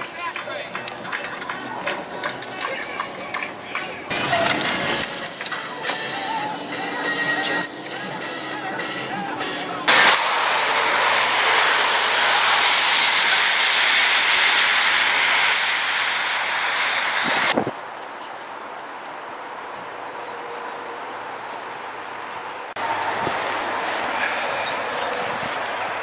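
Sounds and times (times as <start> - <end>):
loud steady hiss: 0.0 - 17.8, 22.7 - 26.0.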